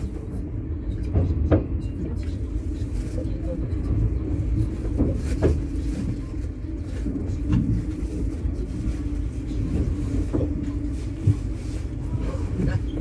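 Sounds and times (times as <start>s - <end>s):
constant hum: 0.0s - 13.0s
train coach rumble: 0.0s - 13.0s.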